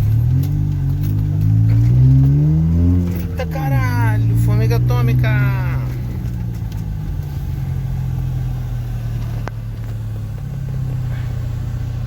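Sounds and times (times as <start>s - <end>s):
car engine droning at low revs: 0.0s - 12.0s.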